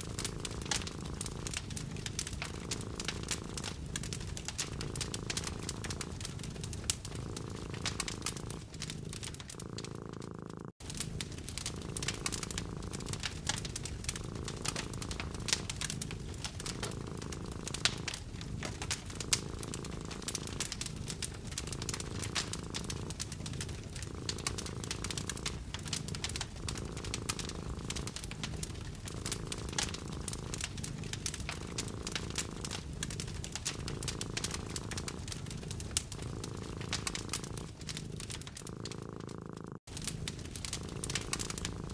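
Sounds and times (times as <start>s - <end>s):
cat purring: 0.0s - 41.9s
wood fire crackling: 0.0s - 41.9s.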